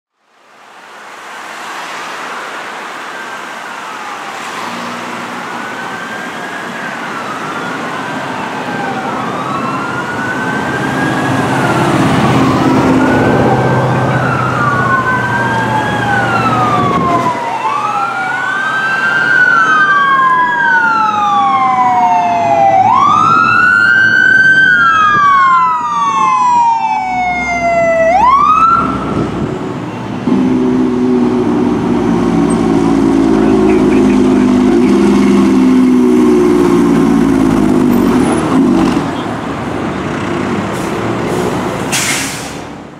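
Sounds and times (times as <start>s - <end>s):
traffic: 0.1s - 42.9s
sirens wailing: 2.6s - 42.0s
truck engine rumble: 5.3s - 42.9s.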